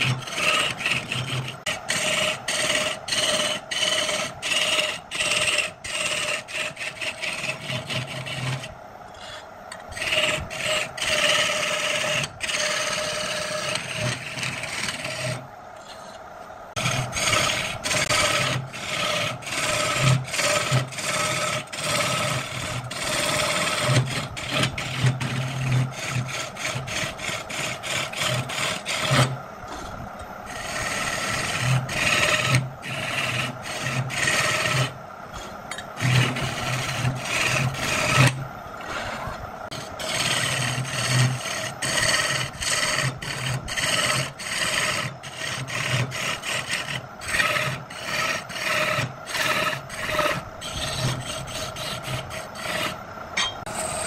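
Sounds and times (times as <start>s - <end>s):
wood rasping strokes: 0.0s - 54.0s.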